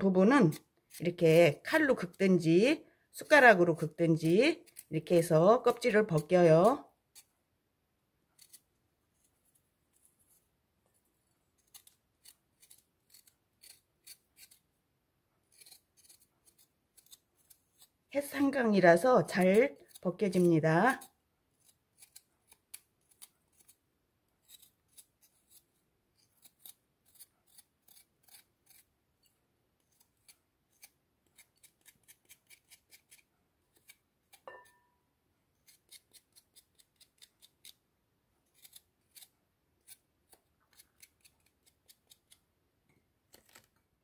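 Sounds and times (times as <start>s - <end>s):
knife scraping ginger skin: 0.0s - 7.4s, 8.3s - 10.5s, 11.2s - 14.8s, 15.4s - 34.9s, 35.6s - 42.5s.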